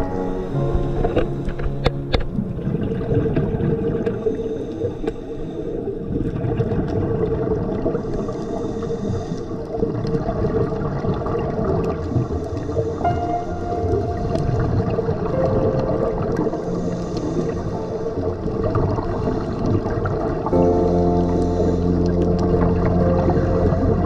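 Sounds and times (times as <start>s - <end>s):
underwater rushing and gurgling: 0.0s - 24.0s.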